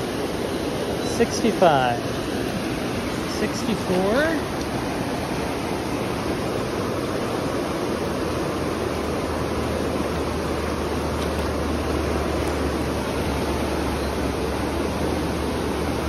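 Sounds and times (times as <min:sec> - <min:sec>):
river rushing over stones: 0:00.0 - 0:16.0.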